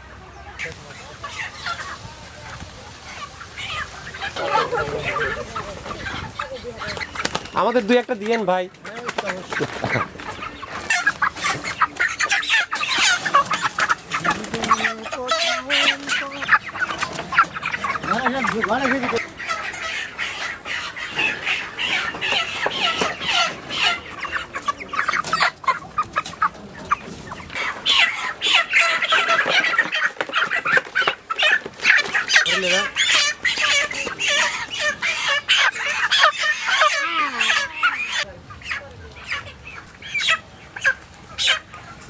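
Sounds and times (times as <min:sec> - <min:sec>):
chickens clucking and squawking: 0:00.0 - 0:42.0.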